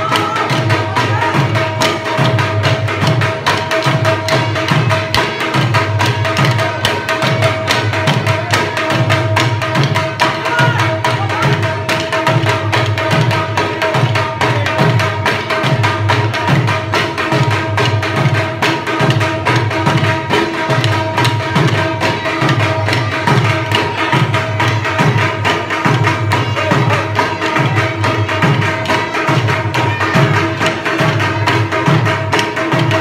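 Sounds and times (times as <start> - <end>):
dhol drum beating: 0.0 - 33.0.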